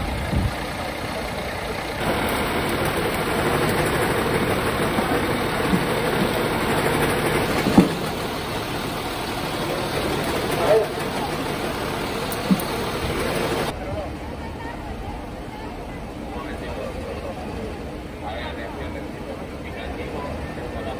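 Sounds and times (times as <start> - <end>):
fire engine idling: 0.0 - 20.9.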